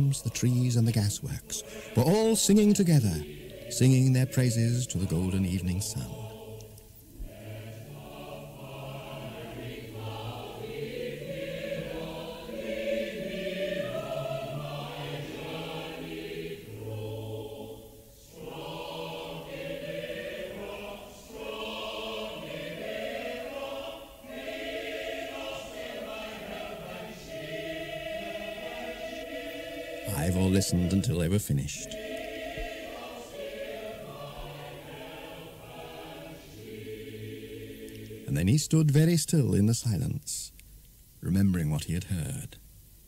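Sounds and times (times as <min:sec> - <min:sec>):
choir singing held notes: 0:00.0 - 0:39.4.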